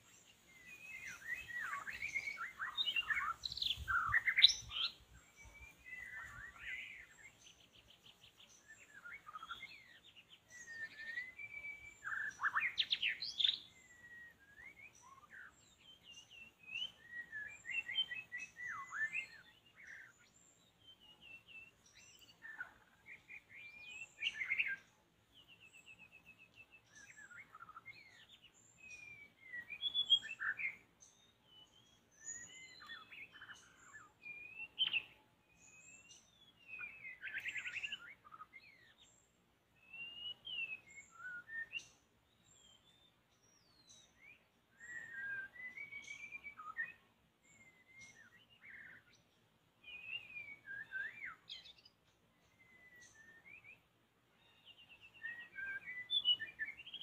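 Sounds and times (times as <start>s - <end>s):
bird singing whistled phrases: 0.0s - 39.1s, 39.8s - 49.2s, 49.8s - 57.0s.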